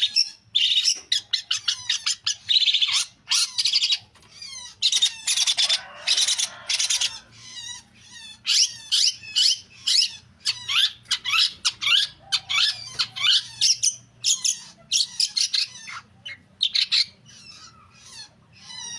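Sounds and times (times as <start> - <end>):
bird chattering song: 0.0 - 18.9
harsh rasping bird calls: 0.0 - 18.9.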